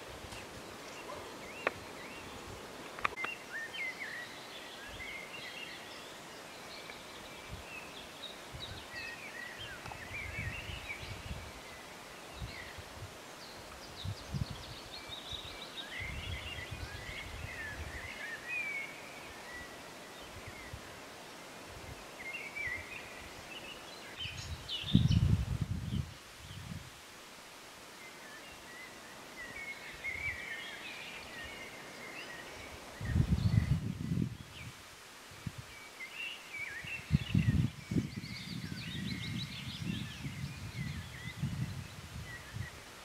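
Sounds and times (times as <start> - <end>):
songbirds chirping and trilling: 0.0 - 26.8, 27.8 - 43.0.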